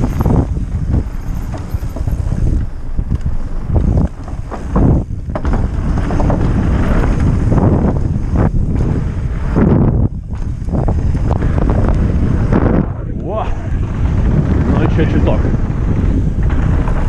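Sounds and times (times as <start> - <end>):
bike knocks and rattles: 0.0 - 17.0
bike tyre noise on dirt: 0.0 - 17.0
wind buffeting microphone: 0.0 - 17.0.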